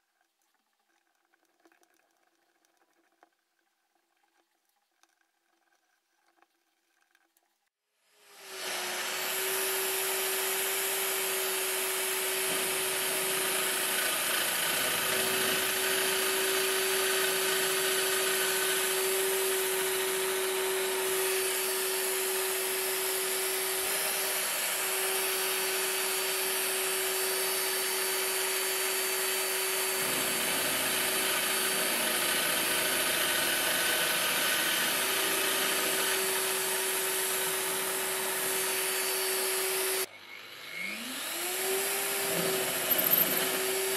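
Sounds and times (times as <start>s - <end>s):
power tool grinding metal: 8.2s - 43.9s.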